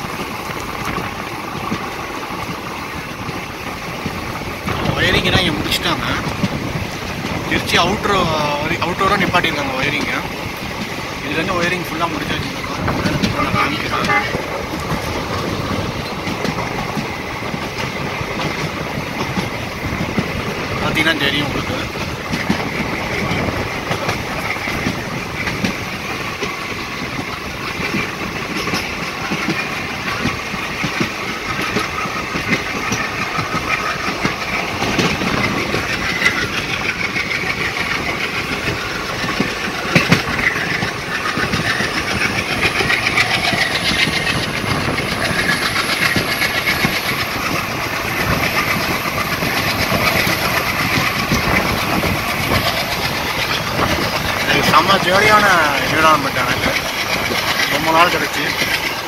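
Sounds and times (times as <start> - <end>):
train wheels running on rails: 0.0 - 59.0
clicks over rail joints: 0.1 - 59.0.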